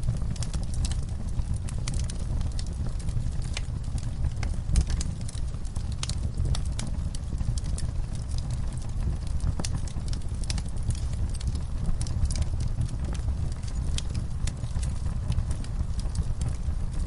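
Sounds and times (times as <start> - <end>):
low roar of flames: 0.0 - 17.0
wood fire crackling: 0.0 - 17.0.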